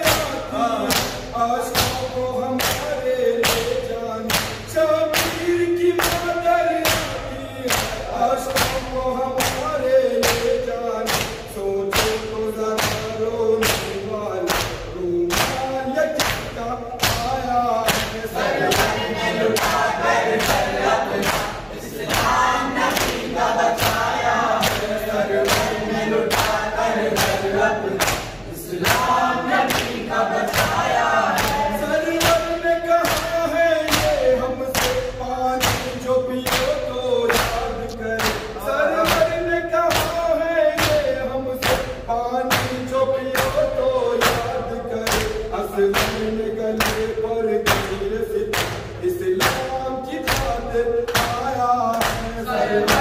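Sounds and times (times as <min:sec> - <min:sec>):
lead voice chanting: 0:00.0 - 0:53.0
men chanting: 0:00.0 - 0:53.0.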